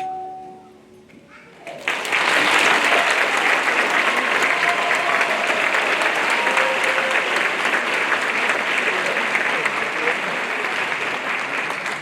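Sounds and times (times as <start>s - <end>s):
audience applauding and cheering: 1.8s - 12.0s.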